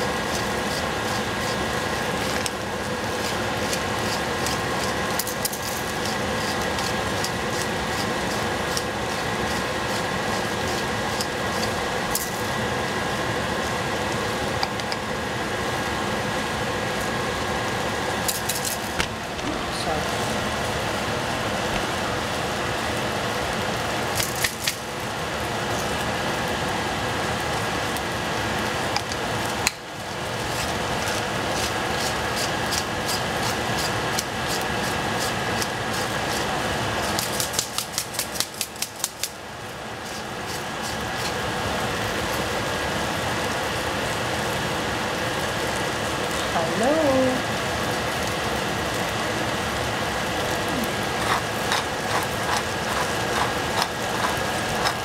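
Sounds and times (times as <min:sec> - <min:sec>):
tomatoes sizzling in a saucepan: 0:00.0 - 0:18.6, 0:19.2 - 0:55.0.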